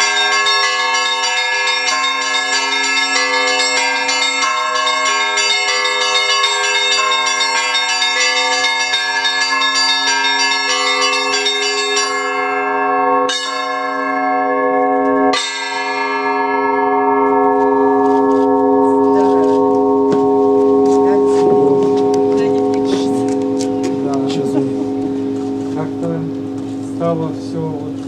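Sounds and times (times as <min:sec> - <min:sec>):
large bells ringing: 0:00.0 - 0:28.0
small bells pealing: 0:00.0 - 0:28.0.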